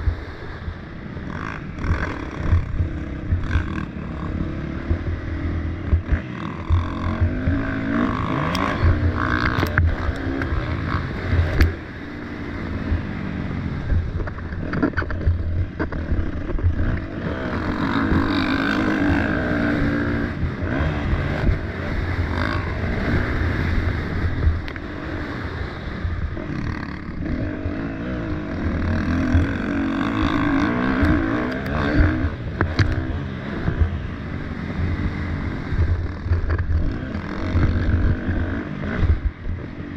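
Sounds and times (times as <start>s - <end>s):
motocross bike engine revving: 1.1s - 39.9s.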